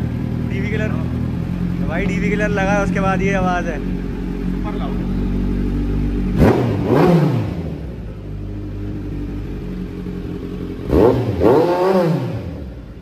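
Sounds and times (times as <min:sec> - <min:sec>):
motorcycle engine idling: 0:00.0 - 0:13.0
motorcycle throttle blips: 0:00.0 - 0:13.0.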